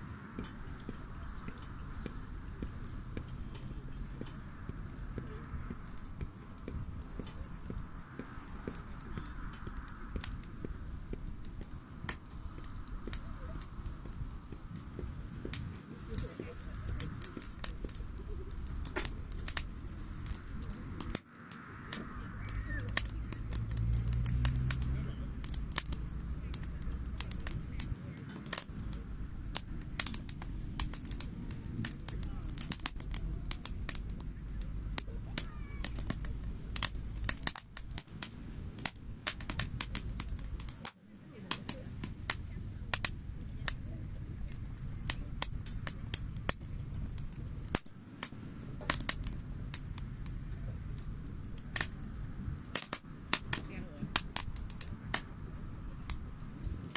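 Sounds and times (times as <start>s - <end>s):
campfire crackling and popping: 0.0s - 56.9s
steady low rumble: 0.0s - 56.9s.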